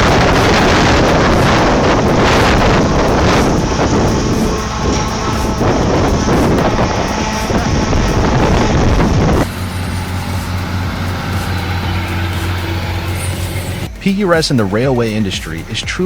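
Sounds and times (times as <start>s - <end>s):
heavy machinery rumbling: 0.0s - 15.8s
low engine drone: 0.0s - 15.8s.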